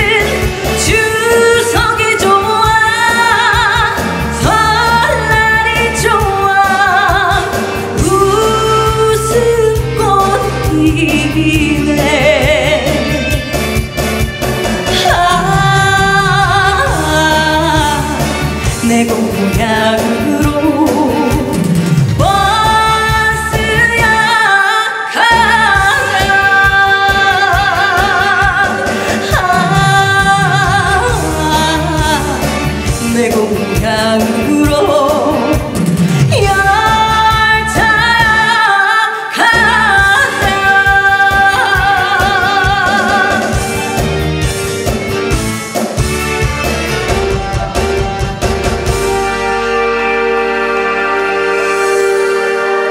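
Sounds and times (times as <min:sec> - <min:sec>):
woman singing with vibrato: 0:00.0 - 0:44.2
instrumental accompaniment: 0:00.0 - 0:52.9.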